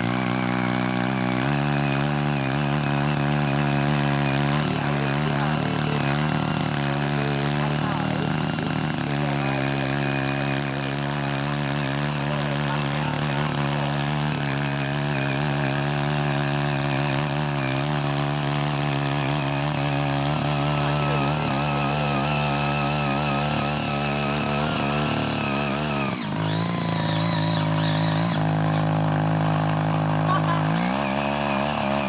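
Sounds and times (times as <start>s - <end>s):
small tiller engine running: 0.0s - 32.0s
tines churning soil: 0.0s - 32.0s.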